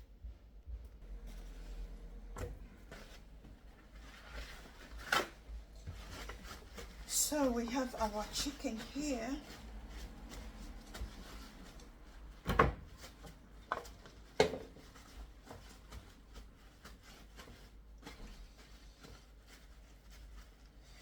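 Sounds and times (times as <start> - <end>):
faint clicks and rustles: 0.0 - 21.0.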